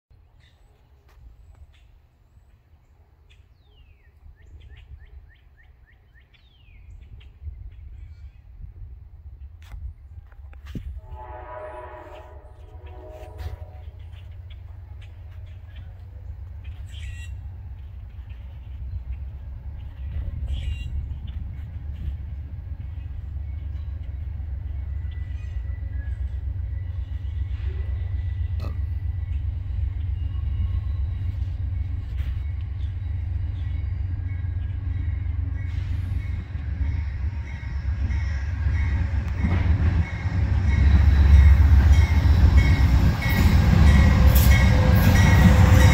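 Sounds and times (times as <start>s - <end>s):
distant train rumble: 0.2s - 45.9s.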